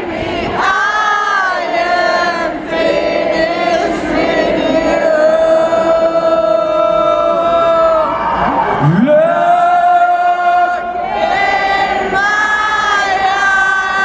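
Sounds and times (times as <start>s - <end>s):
audience singing in unison: 0.0s - 14.0s.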